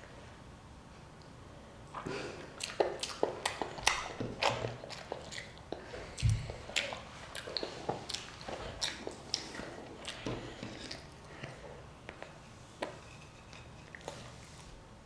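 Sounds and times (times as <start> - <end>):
child chewing: 1.2 - 14.7.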